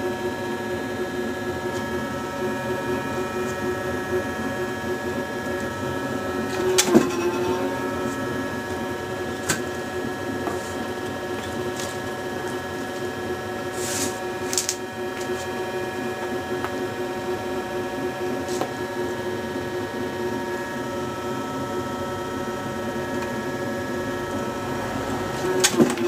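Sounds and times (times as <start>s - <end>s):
workshop machine humming: 0.0s - 26.0s.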